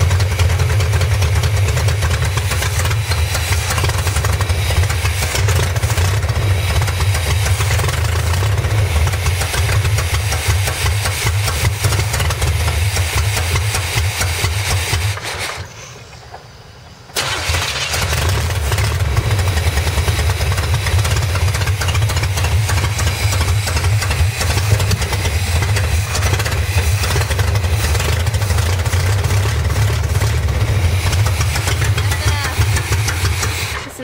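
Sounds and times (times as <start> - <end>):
car engine starting and idling: 0.0 - 34.0.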